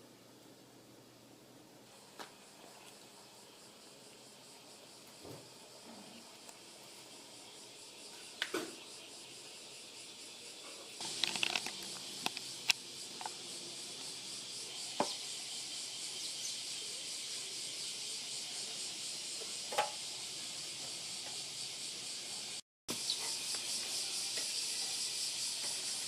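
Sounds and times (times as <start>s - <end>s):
steady high hiss: 0.0s - 26.0s.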